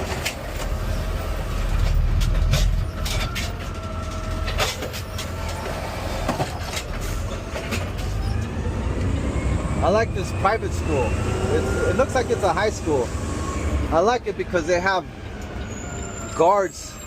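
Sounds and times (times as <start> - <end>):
diesel engine running: 0.0 - 16.1.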